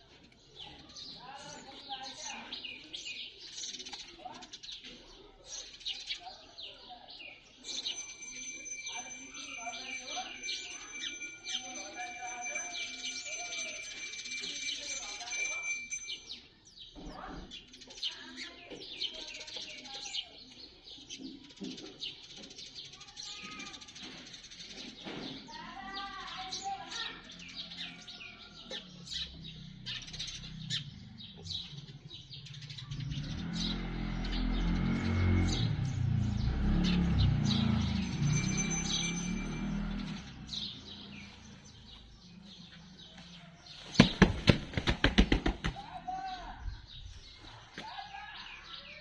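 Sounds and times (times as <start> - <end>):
sparrows chirping rapidly: 0.0 - 49.0.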